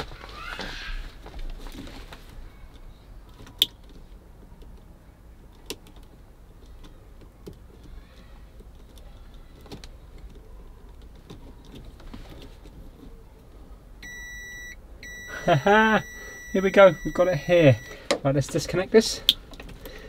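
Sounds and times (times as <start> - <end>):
light handling noises: 0.0 - 13.8, 17.7 - 20.0
faint low hum: 2.3 - 20.0.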